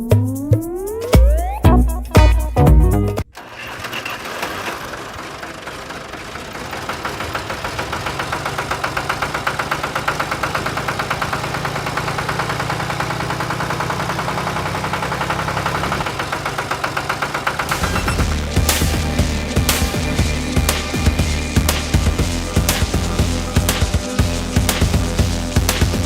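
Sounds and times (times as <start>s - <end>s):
small diesel engine knocking: 3.3s - 26.0s.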